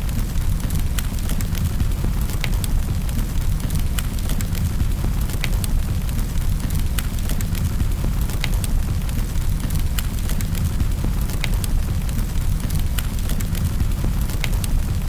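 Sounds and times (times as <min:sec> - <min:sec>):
flames rumbling: 0:00.0 - 0:15.0
wood fire snaps and pops: 0:00.0 - 0:15.0.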